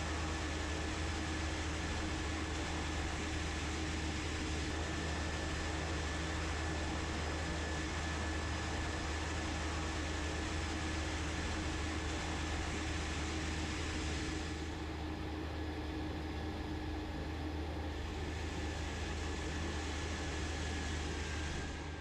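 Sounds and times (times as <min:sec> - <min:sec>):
high engine whine: 0:00.0 - 0:22.0
turboprop engine droning: 0:00.0 - 0:22.0.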